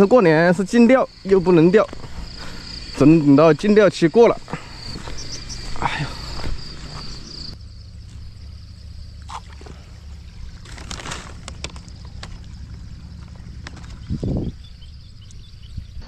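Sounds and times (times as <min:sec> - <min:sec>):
insects chirping: 0:00.0 - 0:16.0
steady low rumble: 0:00.8 - 0:16.0.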